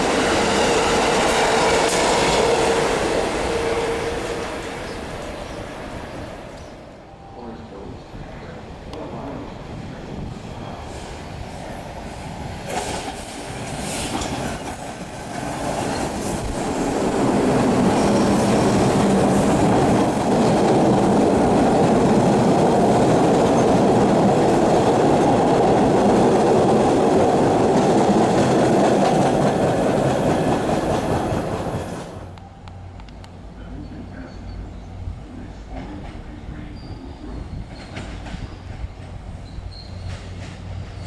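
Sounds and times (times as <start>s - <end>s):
subway train rolling past: 0.0s - 41.0s.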